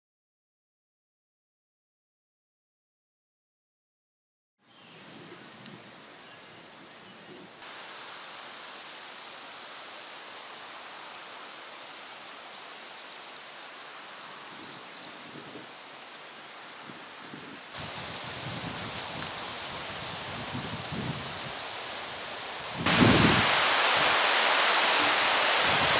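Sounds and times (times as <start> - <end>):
steady hiss: 4.6 - 25.9
high-pitched insect trill: 4.7 - 25.9.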